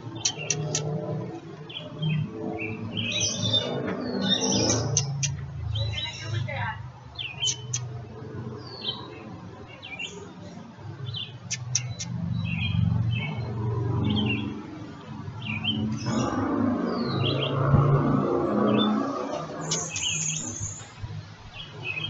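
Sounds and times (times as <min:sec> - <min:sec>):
low rumbling noise: 0:00.0 - 0:22.0
small birds chirping: 0:00.0 - 0:22.0.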